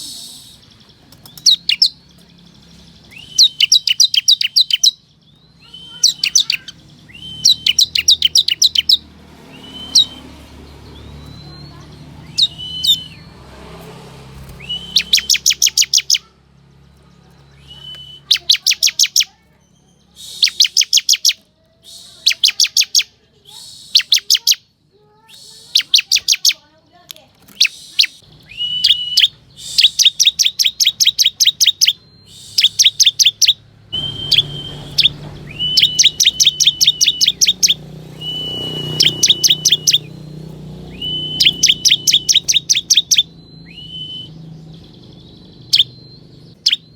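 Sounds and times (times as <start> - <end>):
bird singing sharp high notes: 0.0 - 16.4, 17.4 - 26.7, 27.5 - 46.9.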